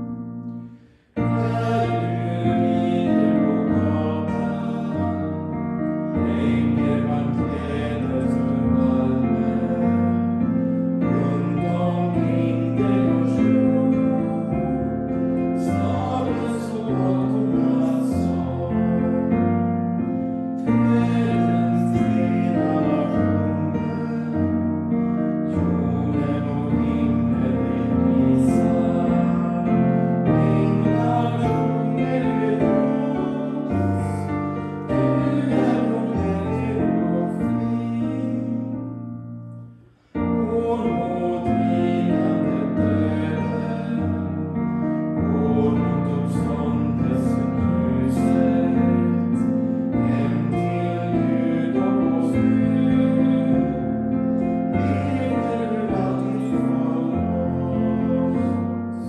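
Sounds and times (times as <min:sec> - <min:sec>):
hymn singing: 0:00.0 - 0:39.0, 0:39.6 - 0:59.0
keyboard chords: 0:00.0 - 0:59.0.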